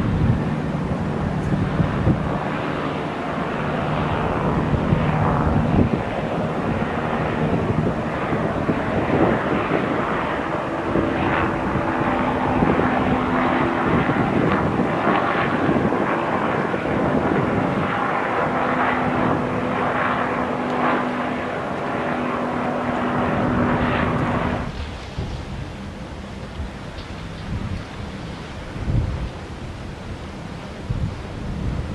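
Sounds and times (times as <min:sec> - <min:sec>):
helicopter turbine and rotor: 0:00.0 - 0:31.9.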